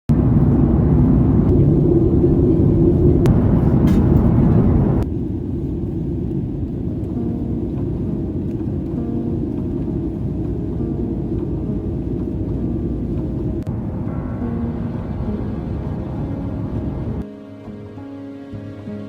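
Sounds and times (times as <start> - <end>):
jet airliner cabin drone: 0.1 - 17.3.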